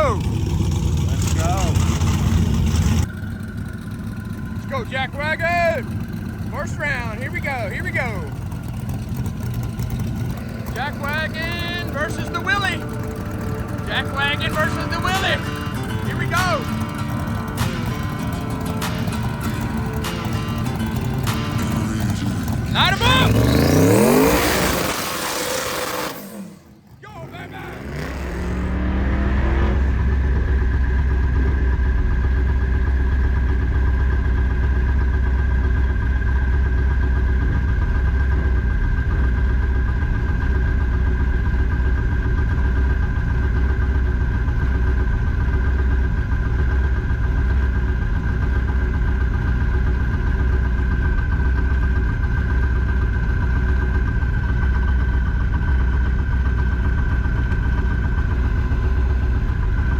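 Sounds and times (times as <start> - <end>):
engine running steadily: 0.0 - 59.9
high turbo whine: 0.0 - 59.9.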